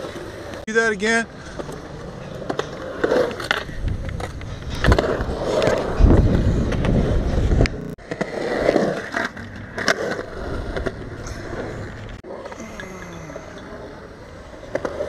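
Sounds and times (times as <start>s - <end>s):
skateboard rolling on concrete: 0.0s - 15.0s.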